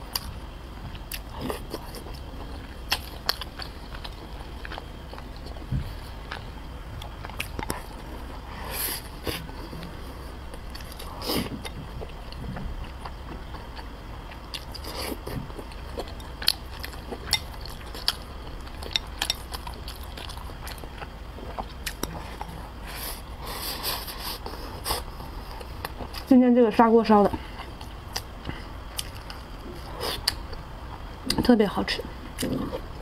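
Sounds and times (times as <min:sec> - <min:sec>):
chewing and mouth noises: 0:00.9 - 0:08.4, 0:09.0 - 0:26.3, 0:27.4 - 0:31.5.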